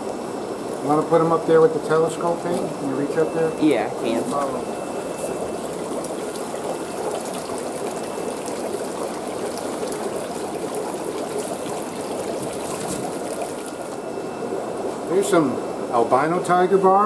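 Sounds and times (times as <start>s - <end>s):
aquarium water trickling: 0.0s - 17.0s.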